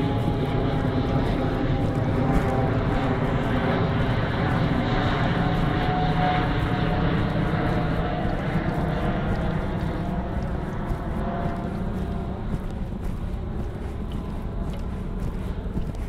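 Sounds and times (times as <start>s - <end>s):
aircraft engine rumble: 0.0s - 16.0s.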